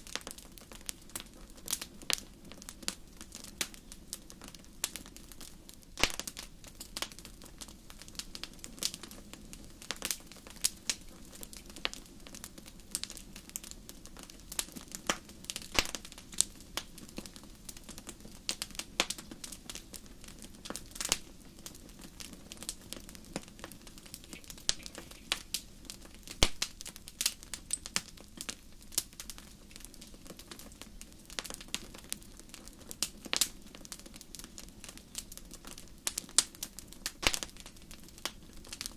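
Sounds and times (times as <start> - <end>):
hiss of flames: 0.0 - 38.9
sharp pops of fire: 0.0 - 38.9
wood fire crackling: 0.0 - 38.9.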